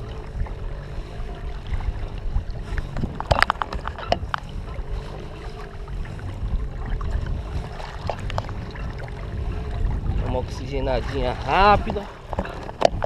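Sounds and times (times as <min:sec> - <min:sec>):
low steady rumble: 0:00.0 - 0:13.0
water splashing and sloshing: 0:00.0 - 0:13.0.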